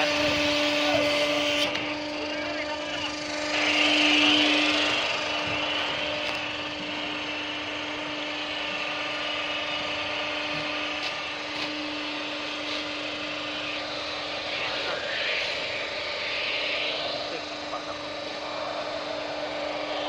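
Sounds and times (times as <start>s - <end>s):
winch humming: 0.0s - 20.0s.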